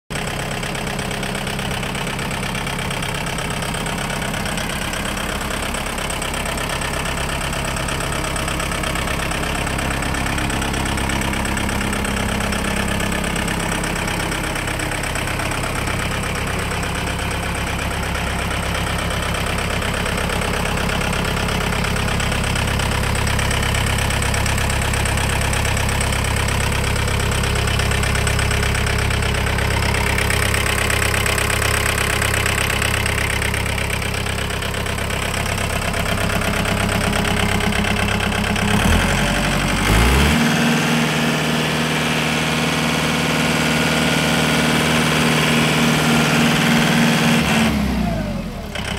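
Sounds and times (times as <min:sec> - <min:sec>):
tractor diesel engine idling: 0:00.1 - 0:48.9.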